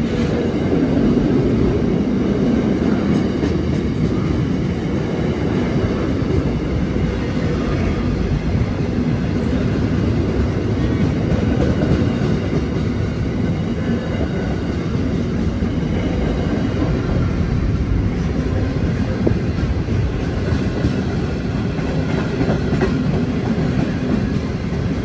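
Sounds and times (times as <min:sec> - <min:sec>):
train wheels rumbling and clattering: 0:00.0 - 0:25.0.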